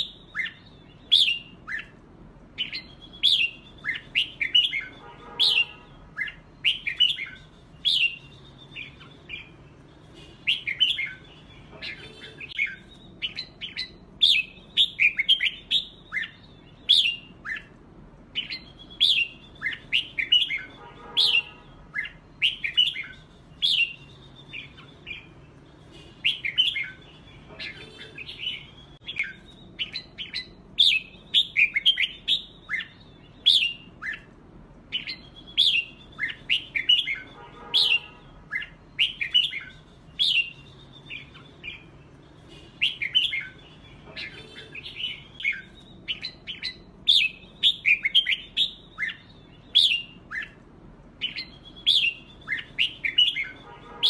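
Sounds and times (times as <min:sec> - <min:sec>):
bulbul whistled song: 0:00.0 - 0:54.0.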